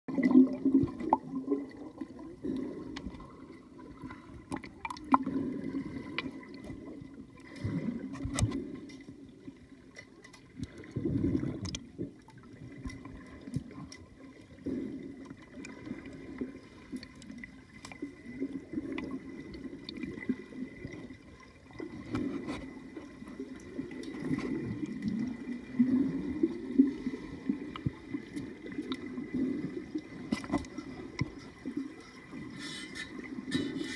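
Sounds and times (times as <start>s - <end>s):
underwater sloshing and gurgling: 0.1s - 33.9s.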